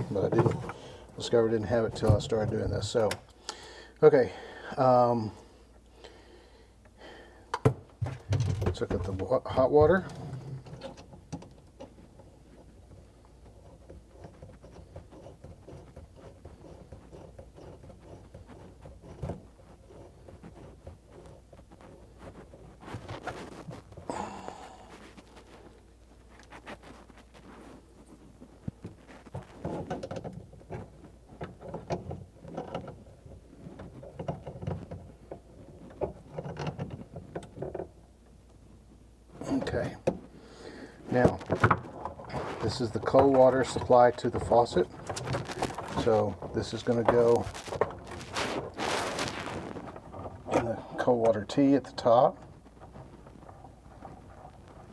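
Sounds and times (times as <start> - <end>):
light clicks and rustles: 6.8 - 54.9.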